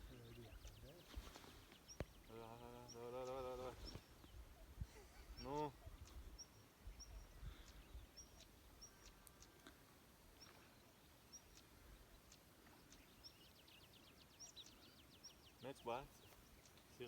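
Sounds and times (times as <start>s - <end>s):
quiet outdoor background noise: 0.0s - 17.0s
small bird chirping: 0.0s - 17.0s.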